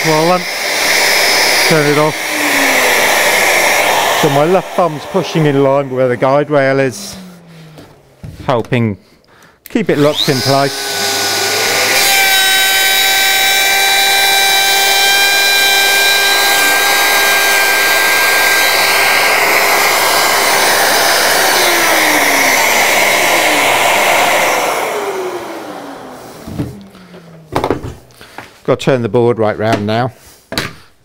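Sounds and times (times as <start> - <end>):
router motor whining: 0.0 - 8.6, 9.9 - 27.8.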